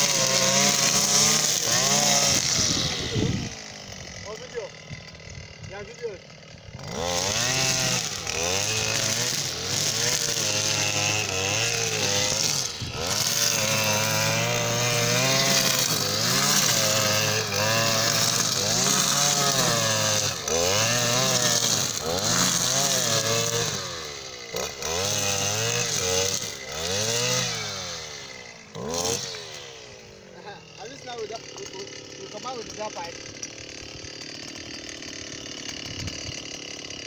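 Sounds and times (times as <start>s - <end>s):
brush cutter engine revving: 0.0s - 37.0s.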